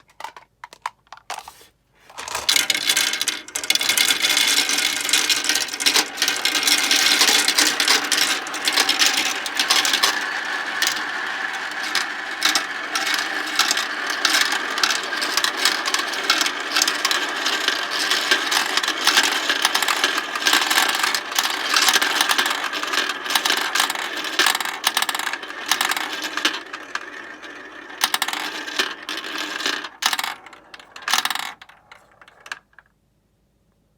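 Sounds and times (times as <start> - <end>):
marbles clattering down a run: 2.2 - 32.8.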